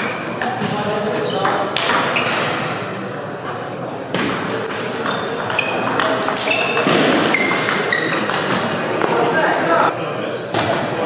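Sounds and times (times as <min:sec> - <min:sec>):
table tennis ball hits: 0:00.0 - 0:09.4.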